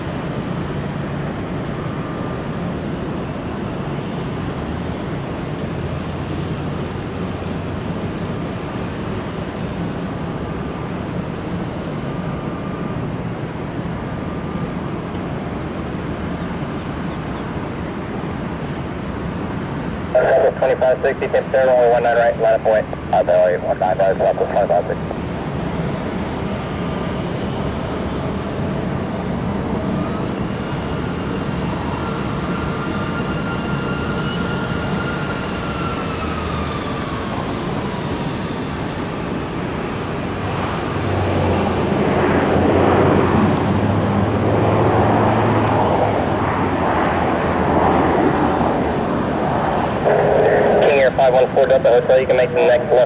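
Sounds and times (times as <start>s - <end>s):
aircraft engine passing: 0.0s - 53.0s.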